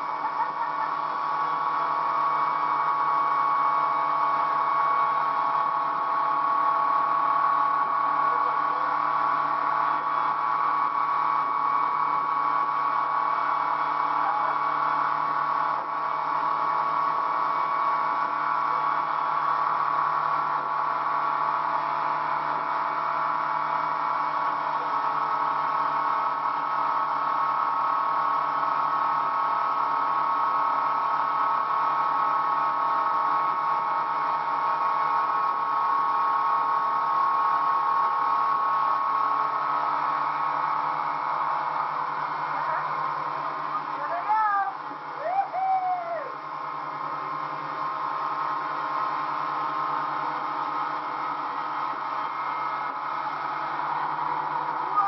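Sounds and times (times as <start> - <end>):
motorboat engine drone: 0.0 - 55.0.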